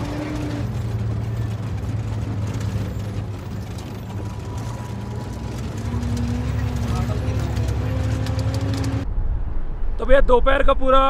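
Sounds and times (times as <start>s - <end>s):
truck diesel engine running: 0.0s - 9.0s.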